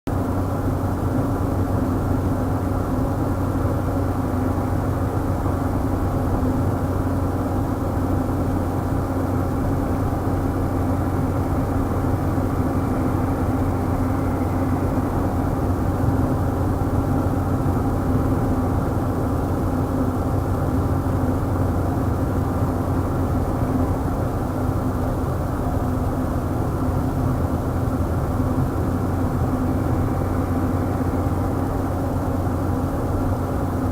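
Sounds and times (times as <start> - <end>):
car engine hum: 0.1 - 33.9
road noise: 0.1 - 33.9.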